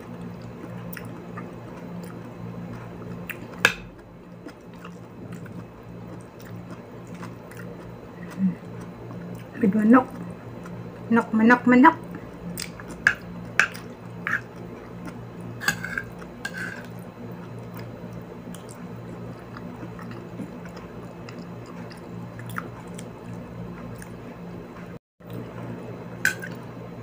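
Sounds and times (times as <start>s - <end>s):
chewing and wet mouth noises: 0.0s - 11.3s, 12.0s - 25.5s
steady low hum: 0.0s - 27.0s.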